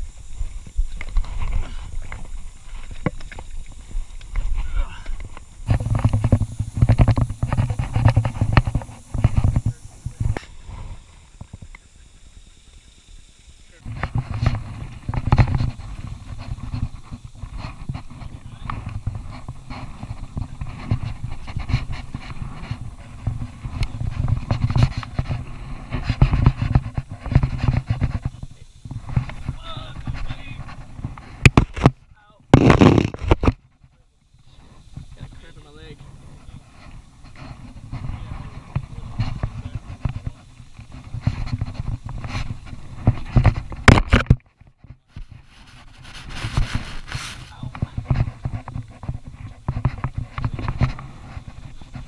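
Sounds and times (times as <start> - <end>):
scrapes and knocks on rock: 0.0 - 11.8, 13.8 - 52.0.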